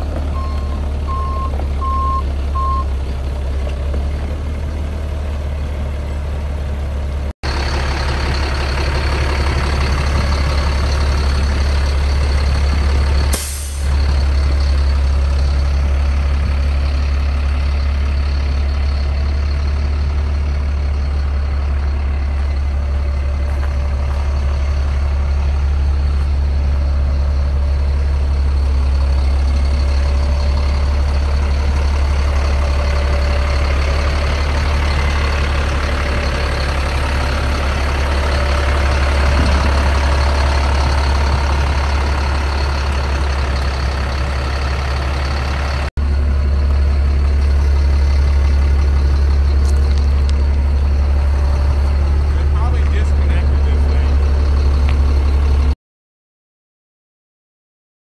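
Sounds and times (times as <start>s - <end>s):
diesel engine idling: 0.0s - 55.8s.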